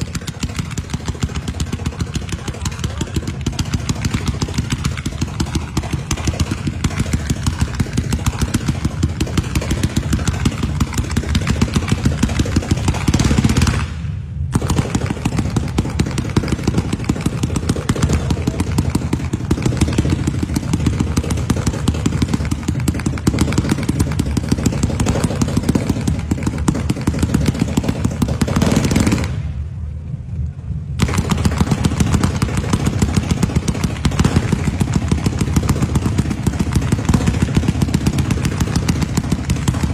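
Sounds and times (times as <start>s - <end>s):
rapid firework barrage: 0.0s - 30.0s, 30.9s - 39.9s.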